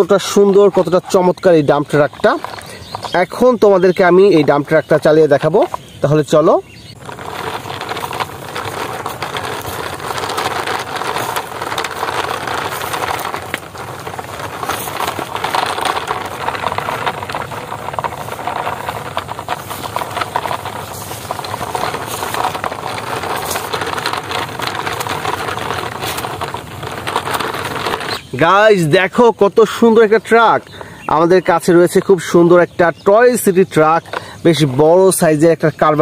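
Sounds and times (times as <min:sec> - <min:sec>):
plastic toy truck rattling and scraping: 0:00.0 - 0:36.0.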